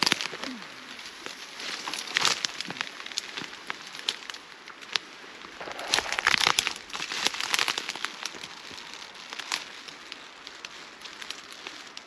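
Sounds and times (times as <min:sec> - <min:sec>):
dry reeds crackling and rustling: 0:00.0 - 0:12.0.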